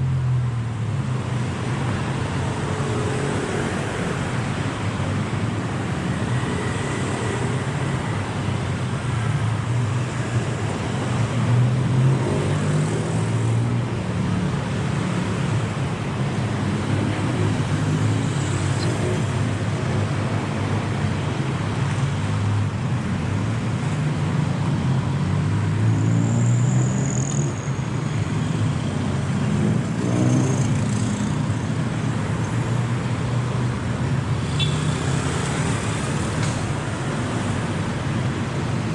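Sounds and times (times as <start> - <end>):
cars passing by: 0.0 - 38.9
road noise roar: 0.0 - 38.9.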